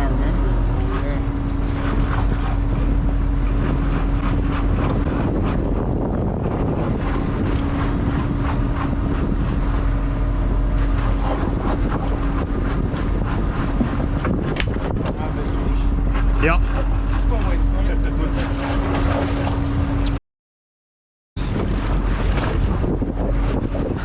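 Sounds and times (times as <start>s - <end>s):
boat engine humming: 0.0s - 20.2s, 21.4s - 24.0s
wind buffeting the microphone: 0.0s - 20.2s, 21.4s - 24.0s.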